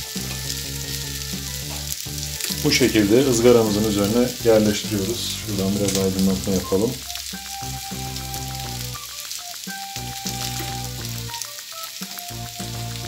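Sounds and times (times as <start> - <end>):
background music of held notes: 0.0 - 13.0
sausage slices sizzling on grill: 0.0 - 13.0.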